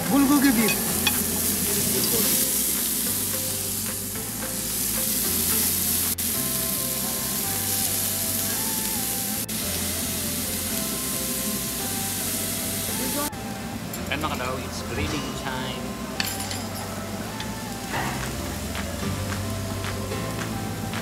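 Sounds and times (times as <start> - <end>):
background music: 0.0 - 21.0
beef sizzling on grill: 0.0 - 21.0.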